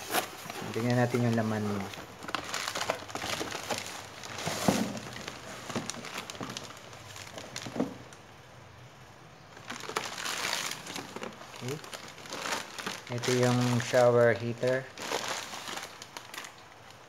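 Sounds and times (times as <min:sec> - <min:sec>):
plastic packaging crinkling: 0:00.0 - 0:08.2, 0:09.6 - 0:17.0.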